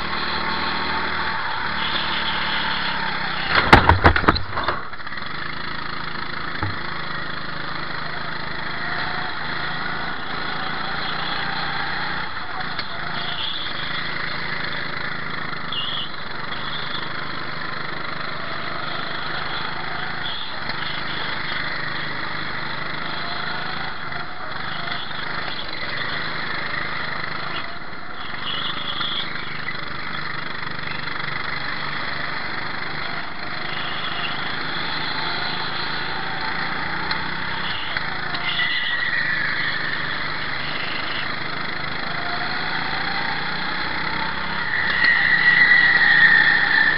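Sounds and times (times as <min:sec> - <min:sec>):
go-kart engine racing: 0:00.0 - 0:46.9.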